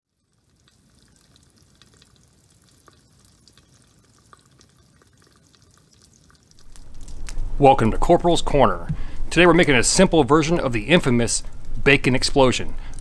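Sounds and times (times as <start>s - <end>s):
campfire cooking crackling: 0.2s - 13.0s.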